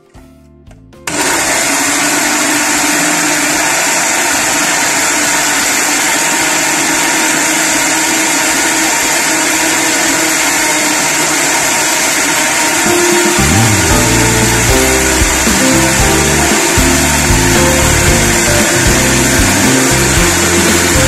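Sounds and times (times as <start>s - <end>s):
blender running: 1.1s - 21.0s.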